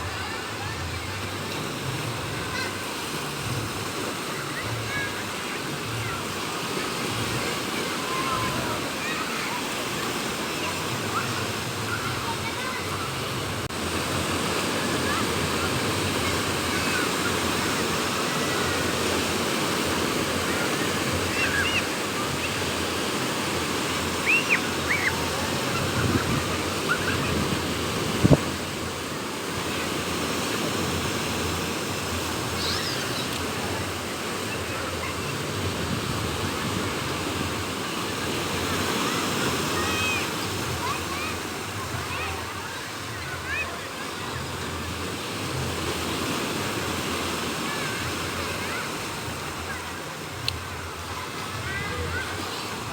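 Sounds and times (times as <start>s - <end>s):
surf washing onto beach: 0.0s - 52.9s
wind: 0.0s - 52.9s.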